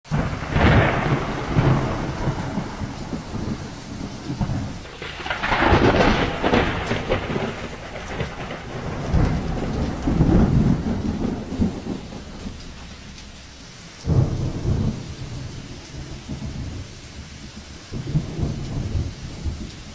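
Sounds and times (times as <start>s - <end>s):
heavy rain: 0.0s - 19.9s
rolling thunder: 0.1s - 19.9s.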